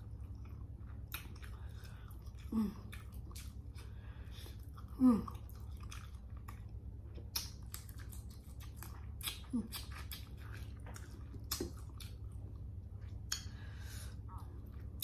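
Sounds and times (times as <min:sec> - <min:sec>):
wet chewing and mouth clicks: 0:00.0 - 0:13.6.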